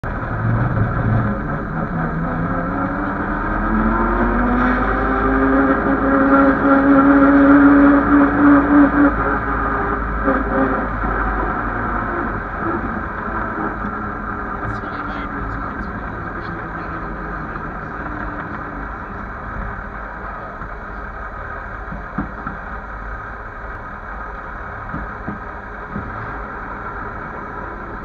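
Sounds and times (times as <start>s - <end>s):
racing car engine accelerating: 0.0s - 28.0s.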